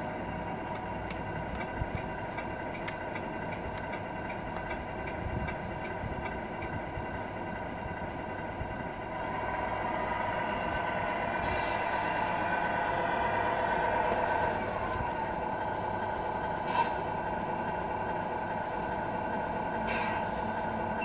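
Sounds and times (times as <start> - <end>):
simulated diesel idle through speaker: 0.0 - 21.0.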